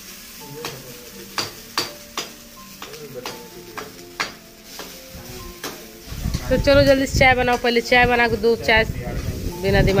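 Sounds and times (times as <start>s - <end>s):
frying sizzle: 0.0s - 10.0s
metal spatula scraping wok: 0.0s - 10.0s.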